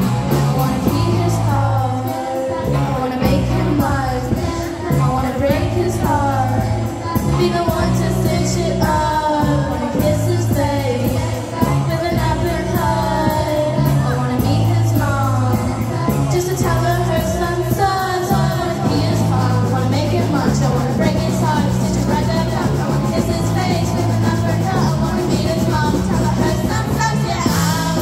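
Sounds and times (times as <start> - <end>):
drums: 0.0 - 28.0
electric guitar: 0.0 - 28.0
girls singing together: 0.0 - 28.0
low bass notes: 0.0 - 28.0.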